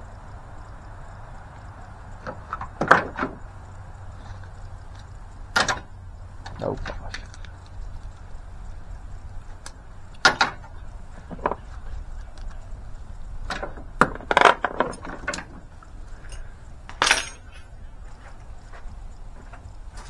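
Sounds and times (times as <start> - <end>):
steady low hum: 0.0 - 20.0
hand tools clinking on metal: 2.1 - 8.2, 9.6 - 20.0.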